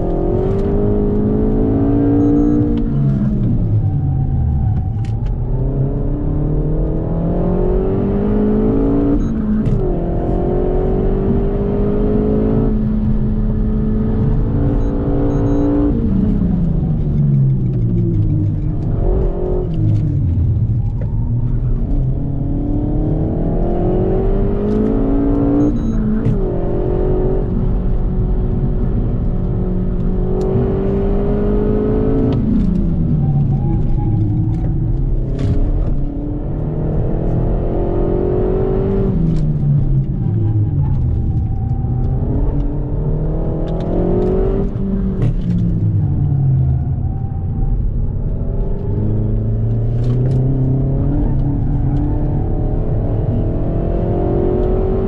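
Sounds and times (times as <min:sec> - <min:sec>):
car engine revving: 0:00.0 - 0:55.0
road and tyre rumble: 0:00.0 - 0:55.0.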